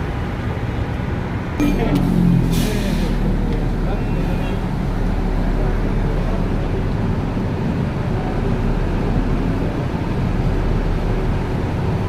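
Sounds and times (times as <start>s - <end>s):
vehicle running: 0.0s - 12.0s.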